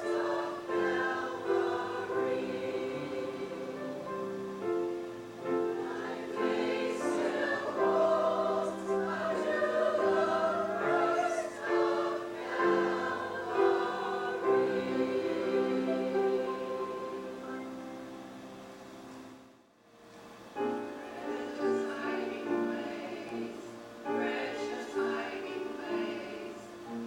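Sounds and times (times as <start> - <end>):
choir singing in harmony: 0.0 - 18.6, 20.6 - 27.0.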